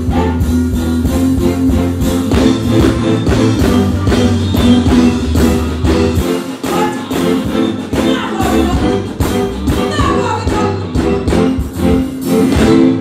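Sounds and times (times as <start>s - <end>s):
bass guitar: 0.0s - 13.0s
drum kit steady beat: 0.0s - 13.0s.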